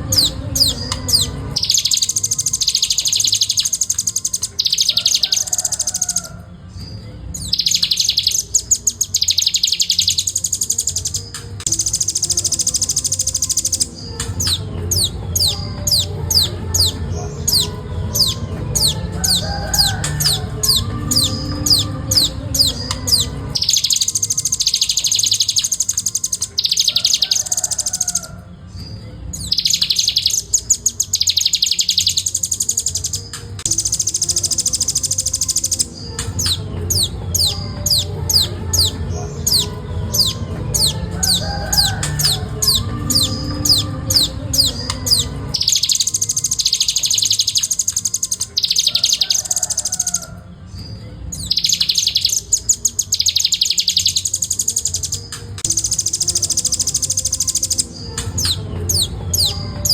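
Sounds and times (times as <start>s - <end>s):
bird singing sharp high notes: 0.0s - 28.3s, 29.3s - 50.2s, 51.4s - 59.9s
buzzy bird trills: 0.0s - 28.5s, 29.3s - 50.4s, 51.3s - 59.9s.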